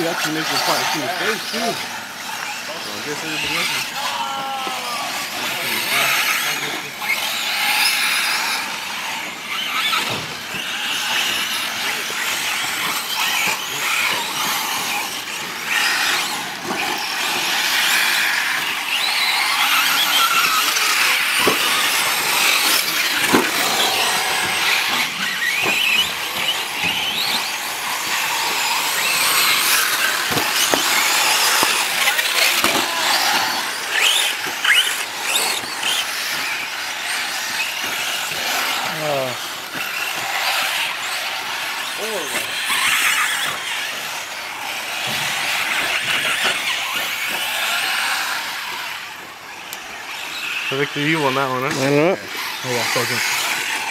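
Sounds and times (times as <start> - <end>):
electric motors whining: 0.0 - 53.9.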